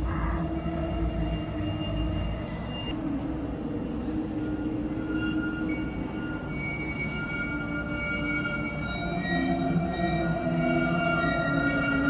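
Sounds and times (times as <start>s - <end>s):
ambient drone tones: 0.0s - 12.0s.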